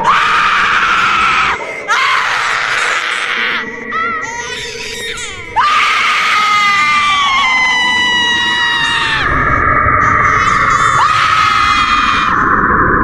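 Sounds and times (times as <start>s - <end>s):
person screaming: 0.0s - 9.4s, 10.2s - 12.4s
falling cries: 0.0s - 12.6s.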